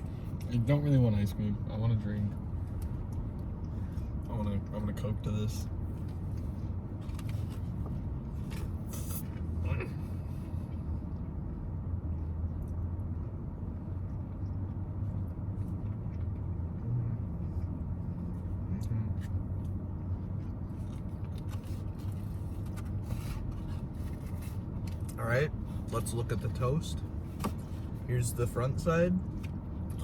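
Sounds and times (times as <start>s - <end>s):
motor vehicle rumbling: 0.0s - 30.0s.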